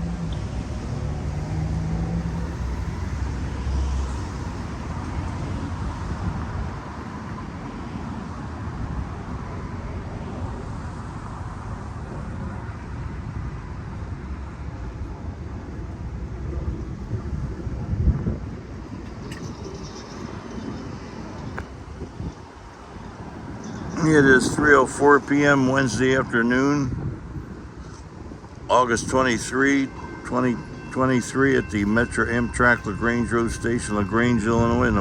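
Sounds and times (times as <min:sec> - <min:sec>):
rumbling vehicle noise: 0:00.0 - 0:35.0
truck engine hum: 0:00.0 - 0:35.0.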